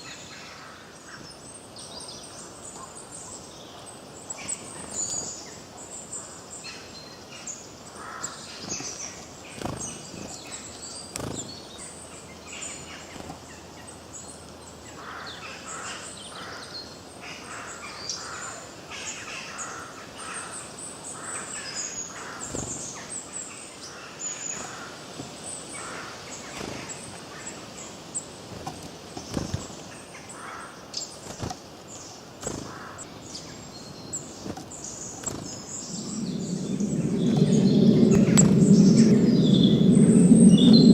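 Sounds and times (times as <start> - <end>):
forest birds chirping and singing: 0.0 - 40.9.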